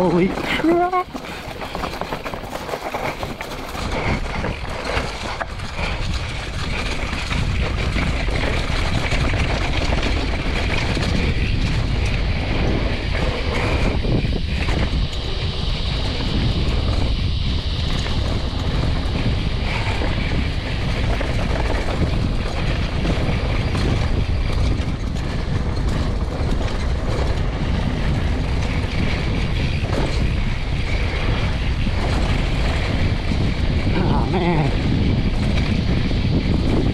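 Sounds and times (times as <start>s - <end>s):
bike knocking and rattling: 0.0s - 36.9s
bike tyres rolling over dirt: 0.0s - 36.9s
wind noise on microphone: 0.0s - 36.9s.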